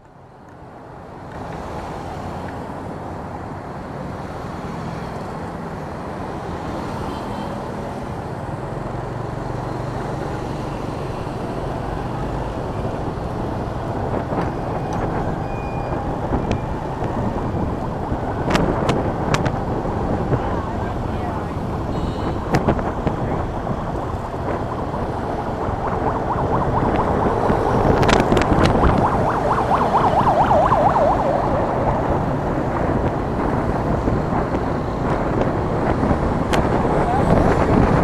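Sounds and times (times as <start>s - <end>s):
road and wind noise: 0.0s - 38.0s.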